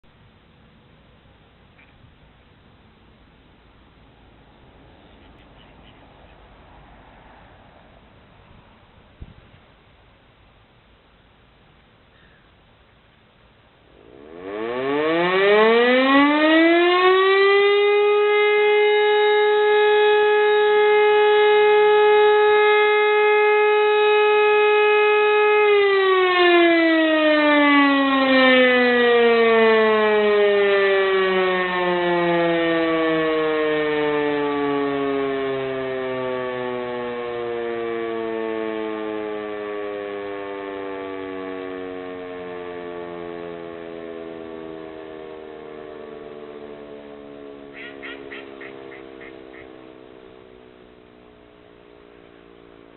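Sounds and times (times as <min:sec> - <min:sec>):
civil defence siren steady tone: 0:00.0 - 0:52.9.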